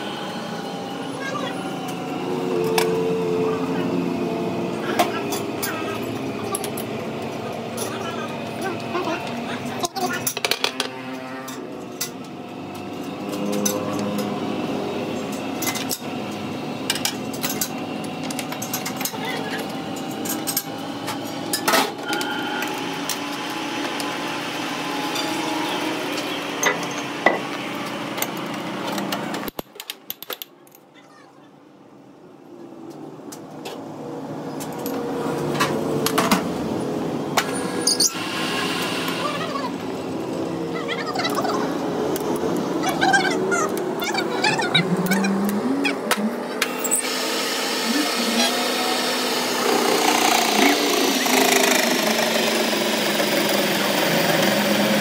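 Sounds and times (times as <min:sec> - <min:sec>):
lathe machine hum: 0:00.0 - 0:09.8, 0:10.7 - 0:29.4, 0:33.9 - 0:40.8, 0:46.1 - 0:55.0.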